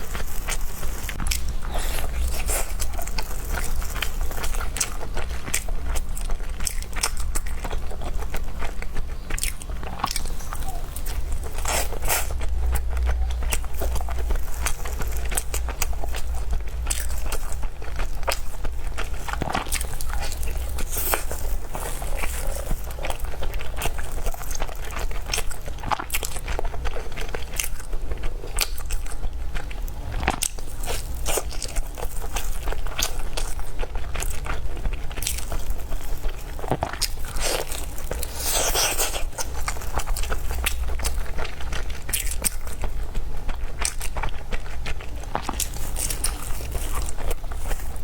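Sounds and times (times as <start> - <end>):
person chewing food: 0.0 - 48.0
steady low hum: 0.0 - 48.0.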